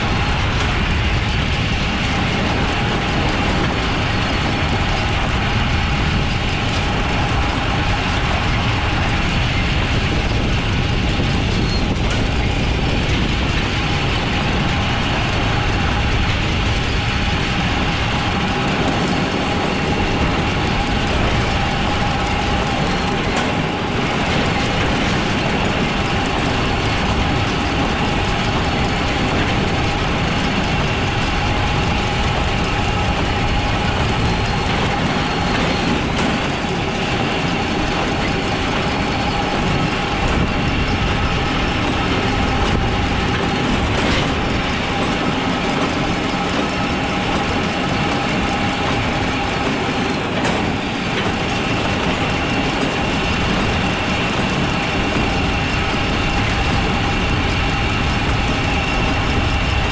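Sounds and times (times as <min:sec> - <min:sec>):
diesel tractor running: 0:00.0 - 0:59.9
hay wagon rattling: 0:00.0 - 0:59.9.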